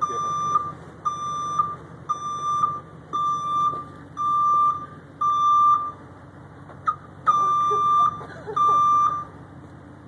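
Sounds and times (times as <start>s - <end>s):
backup alarm beeping: 0.0s - 6.0s, 6.8s - 9.3s.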